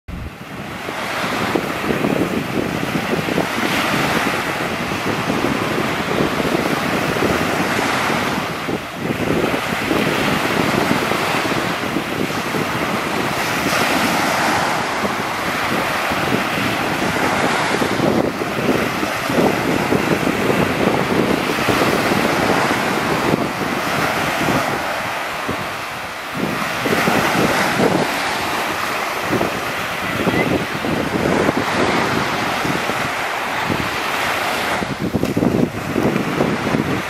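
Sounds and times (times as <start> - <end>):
small surf washing ashore: 0.1 - 37.0
wind buffeting microphone: 0.1 - 37.0.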